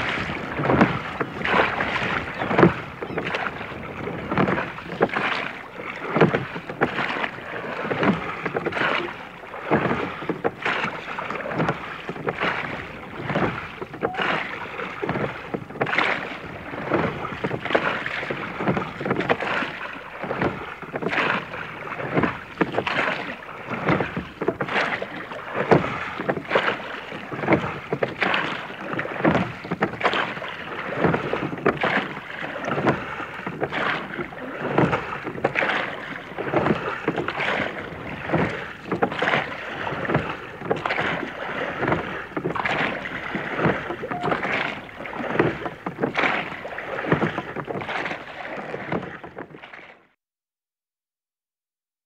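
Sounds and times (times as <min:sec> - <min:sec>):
oars knocking and splashing: 0:00.0 - 0:50.2.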